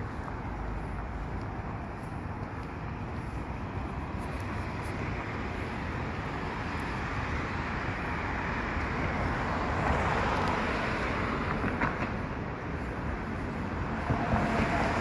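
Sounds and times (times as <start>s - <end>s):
city street noise: 0.0s - 15.0s.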